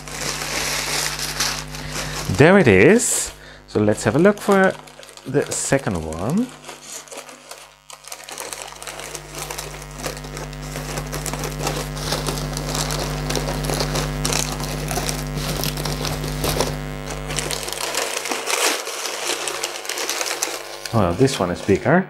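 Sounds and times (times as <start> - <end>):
paper rustling and crinkling: 0.0 - 22.0
steady low hum: 0.0 - 22.0.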